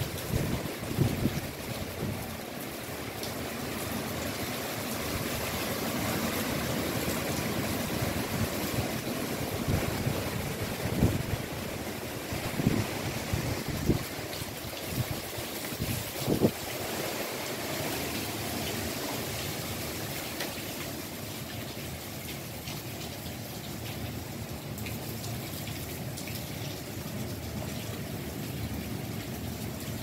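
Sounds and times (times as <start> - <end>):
heavy rain falling: 0.0 - 30.0
water dripping and splashing: 0.0 - 30.0.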